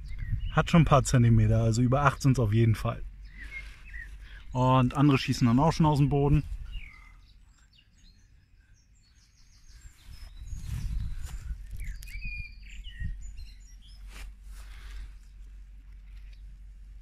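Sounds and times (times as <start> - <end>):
low rumble on the microphone: 0.0 - 17.0
small birds chirping: 0.0 - 17.0.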